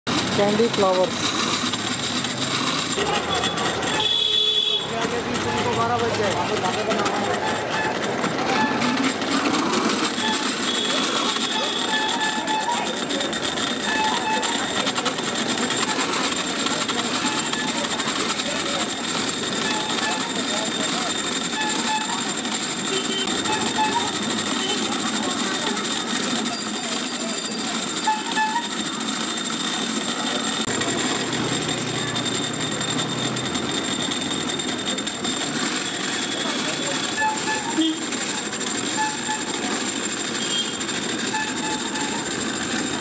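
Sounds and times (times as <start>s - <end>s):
cotton candy machine whirring: 0.0s - 43.0s
street noise: 0.0s - 43.0s.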